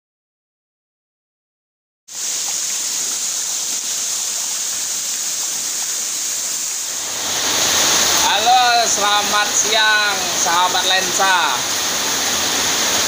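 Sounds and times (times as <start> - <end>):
waterfall rushing and splashing: 2.1 - 13.0.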